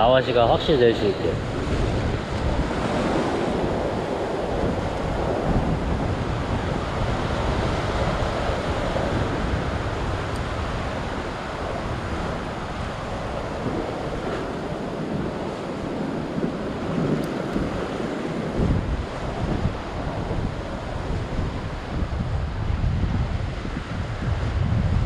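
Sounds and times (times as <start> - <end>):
ocean surf against rocks: 0.0 - 25.0
wind buffeting microphone: 0.0 - 25.0.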